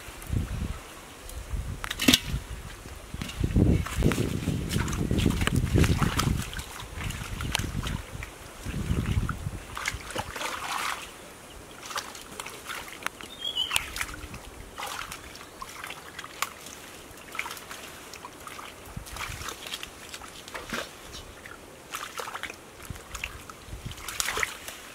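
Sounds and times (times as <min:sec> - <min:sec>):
hands splashing in muddy water: 0:03.2 - 0:11.2, 0:11.8 - 0:24.9.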